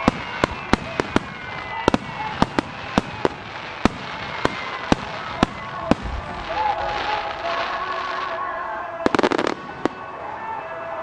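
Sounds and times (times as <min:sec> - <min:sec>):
fireworks hissing crackle: 0:00.0 - 0:10.6.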